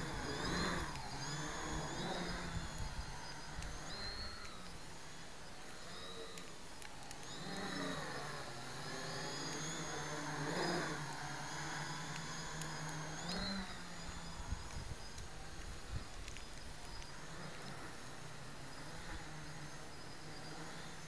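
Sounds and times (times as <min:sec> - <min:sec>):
quadcopter propeller hum: 0:00.0 - 0:21.0.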